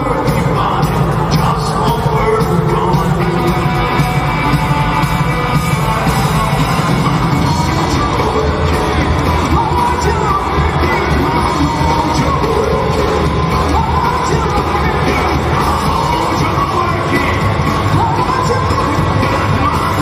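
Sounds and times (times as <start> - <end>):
crowd noise: 0.0 - 20.0
drums: 0.0 - 20.0
electric guitar: 0.0 - 20.0
person singing: 0.0 - 20.0.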